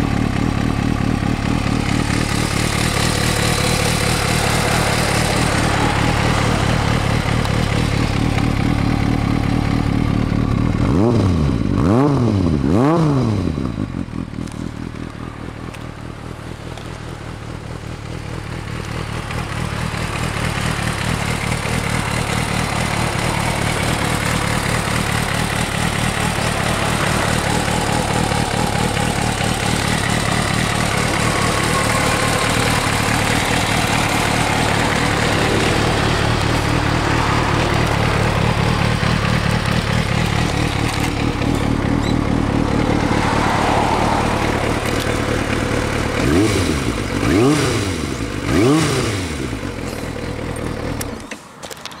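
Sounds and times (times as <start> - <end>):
motorcycle engine idling: 0.0 - 52.0
engine revving: 1.3 - 14.8, 18.7 - 51.3.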